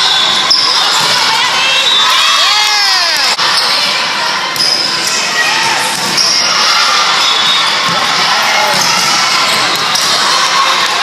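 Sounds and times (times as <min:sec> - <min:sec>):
people shouting and calling out: 0:00.0 - 0:11.0.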